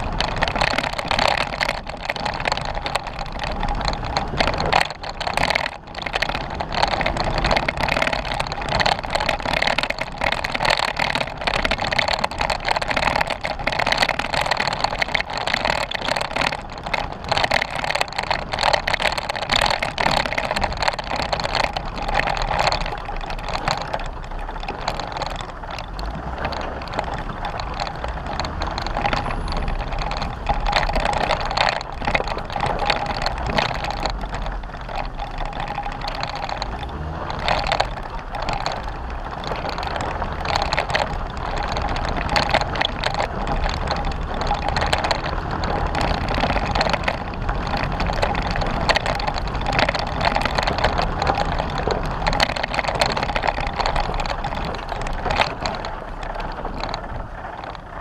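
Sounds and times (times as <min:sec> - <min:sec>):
knocks and rattles: 0:00.0 - 0:58.0
vehicle driving on rough trail: 0:00.0 - 0:58.0.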